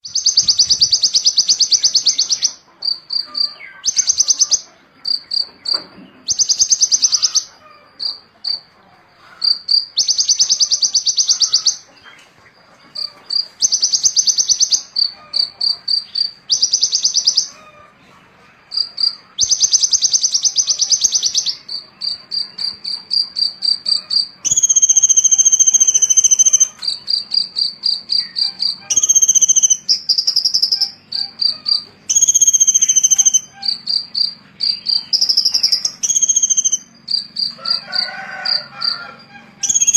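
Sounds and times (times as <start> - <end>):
small songbird singing: 0.0 - 39.9.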